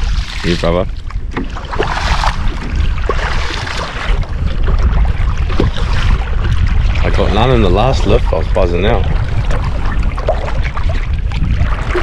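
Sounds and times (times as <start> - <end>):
water splashing around wading legs: 0.0 - 12.0
wind buffeting microphone: 0.0 - 12.0.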